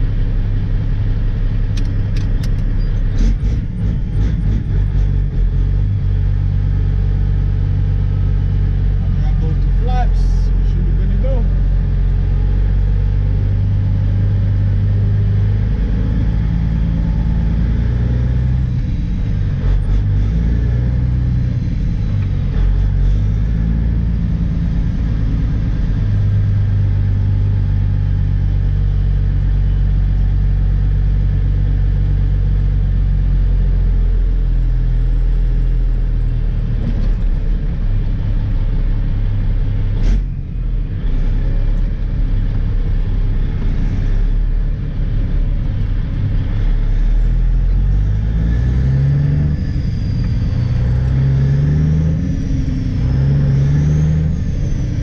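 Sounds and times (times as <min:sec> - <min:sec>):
diesel truck engine drone: 0:00.0 - 0:55.0.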